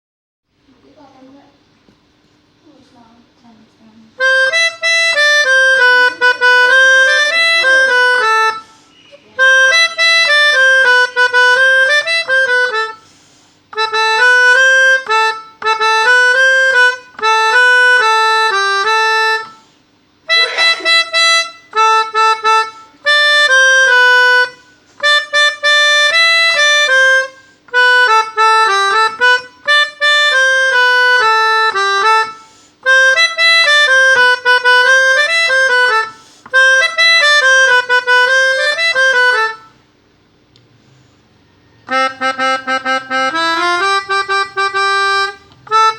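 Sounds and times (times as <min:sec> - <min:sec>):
melodica playing short tunes: 0:04.2 - 0:39.8, 0:41.8 - 0:45.9.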